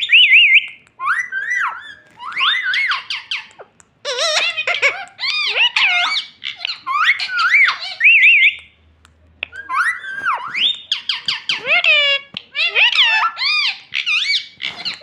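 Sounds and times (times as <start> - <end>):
parrot chattering and mimicking: 0.0 - 8.8, 9.4 - 15.0.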